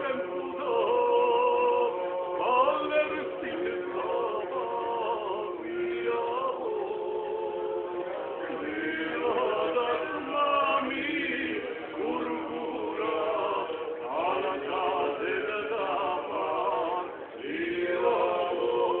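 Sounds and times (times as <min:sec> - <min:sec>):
men singing in harmony: 0:00.0 - 0:19.0.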